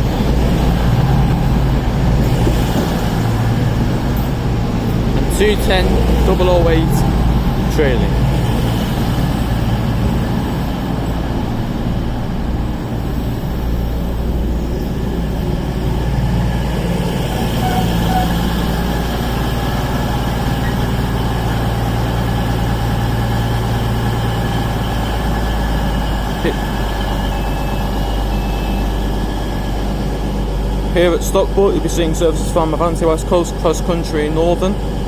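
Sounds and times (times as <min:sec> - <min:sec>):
train diesel engines idling: 0:00.0 - 0:35.0.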